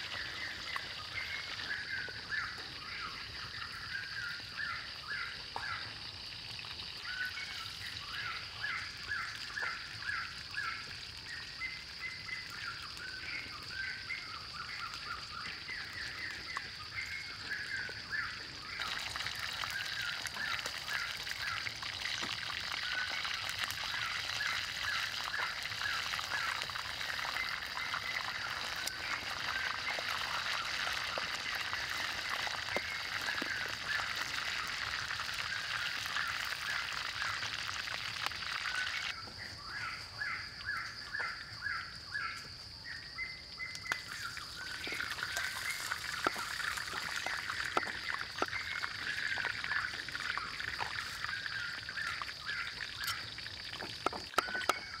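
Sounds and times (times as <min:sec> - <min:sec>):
hot oil sizzling and crackling: 0:00.0 - 0:39.2, 0:43.7 - 0:55.0.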